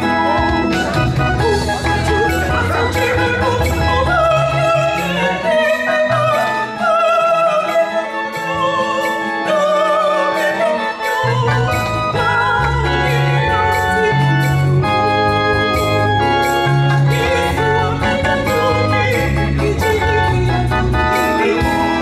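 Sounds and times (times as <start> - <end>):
lead voice with vibrato: 0.0 - 22.0
organ accompaniment: 0.0 - 22.0
choir singing: 0.1 - 22.0.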